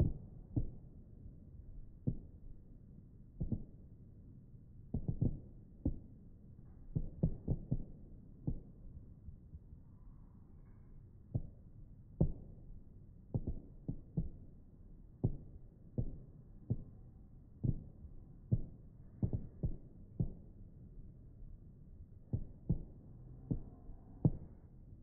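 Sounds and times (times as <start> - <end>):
steady low background noise: 0.0 - 25.0.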